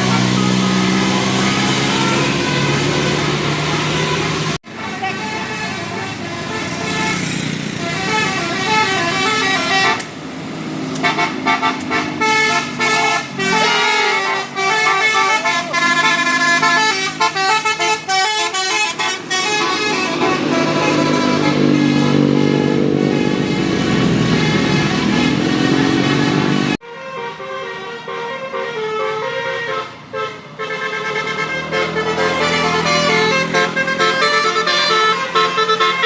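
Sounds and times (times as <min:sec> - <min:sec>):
musical bus horn melody: 0:00.0 - 0:36.0.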